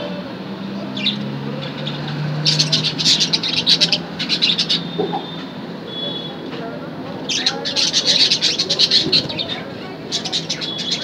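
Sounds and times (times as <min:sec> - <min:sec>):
budgerigars chirping: 0:01.0 - 0:06.4, 0:07.3 - 0:11.0.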